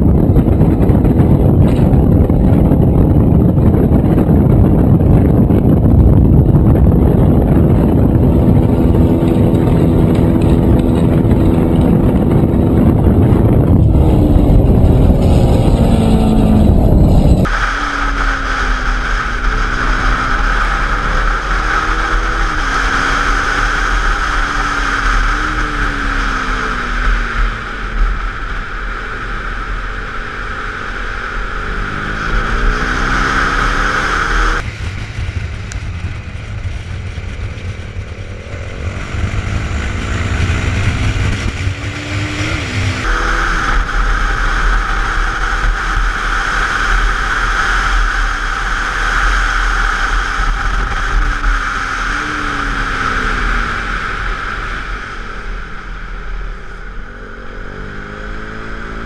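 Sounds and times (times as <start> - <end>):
low rumble: 0.0 - 59.0
motorcycle engine accelerating: 0.0 - 59.0
wind rush on microphone: 0.0 - 59.0.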